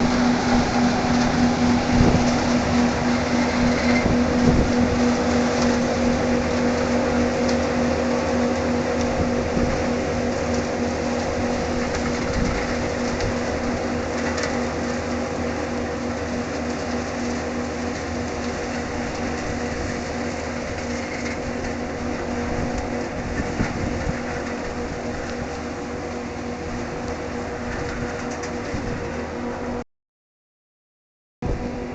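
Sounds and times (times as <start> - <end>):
harvesting machine engine humming: 0.0 - 29.8.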